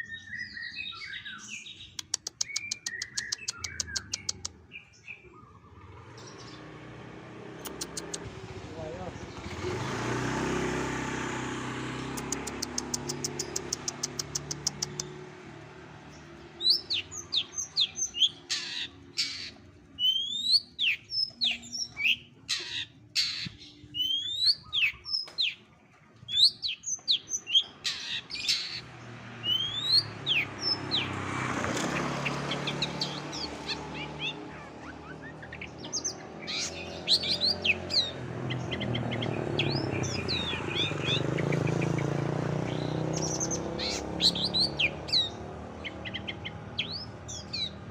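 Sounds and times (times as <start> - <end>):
songbird chirping and whistling: 0.0 - 6.7, 12.1 - 15.2, 16.2 - 25.7, 26.3 - 28.8, 29.4 - 31.1, 32.2 - 47.9.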